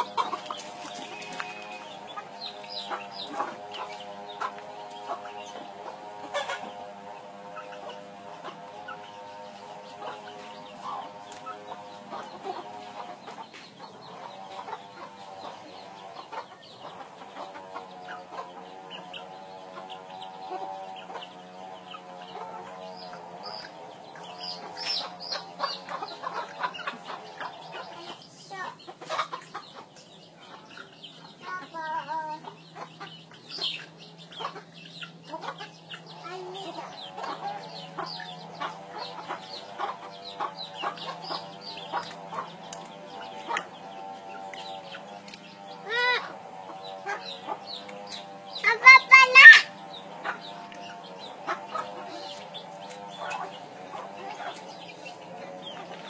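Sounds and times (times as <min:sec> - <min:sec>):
hens clucking: 0:00.0 - 0:56.0.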